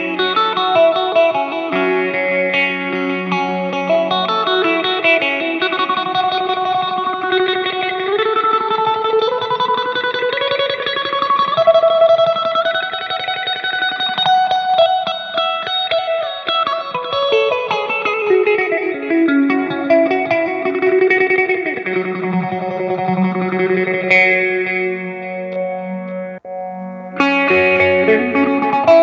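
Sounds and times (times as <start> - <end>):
electric guitar lead: 0.0 - 29.0.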